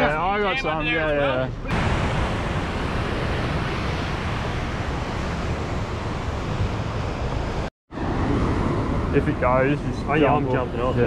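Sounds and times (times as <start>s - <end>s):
wind buffeting microphone: 1.6s - 11.0s
surf washing on beach: 1.7s - 10.9s.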